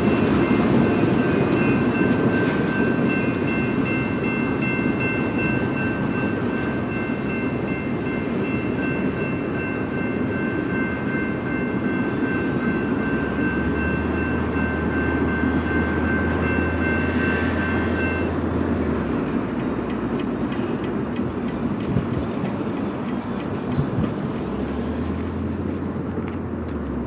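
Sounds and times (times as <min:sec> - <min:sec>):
crossing bell ringing: 0:00.0 - 0:21.8
freight train rumbling: 0:00.0 - 0:27.0.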